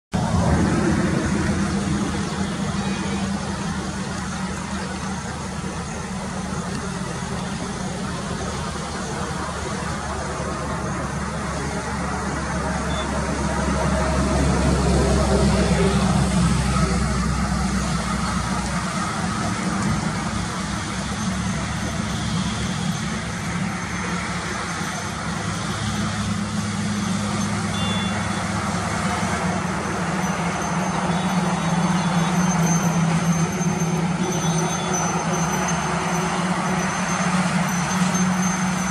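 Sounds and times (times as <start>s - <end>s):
road noise: 0.0s - 38.9s
heavy trucks passing: 0.1s - 38.9s
low engine rumble: 0.1s - 38.9s.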